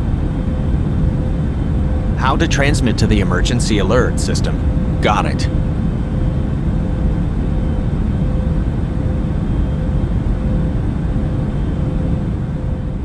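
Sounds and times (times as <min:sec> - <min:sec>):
faint constant hum: 0:00.0 - 0:13.0.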